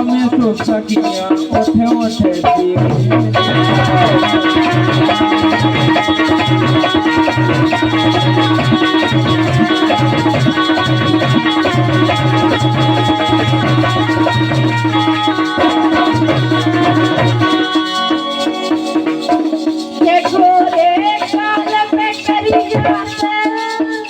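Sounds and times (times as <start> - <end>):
drums and percussion: 0.0 - 24.0
sustained melodic instruments: 0.0 - 24.0.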